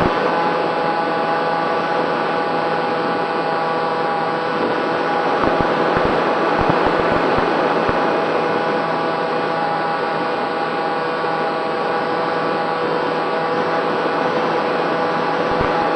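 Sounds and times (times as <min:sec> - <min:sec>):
electric motor and propeller whine: 0:00.0 - 0:15.9.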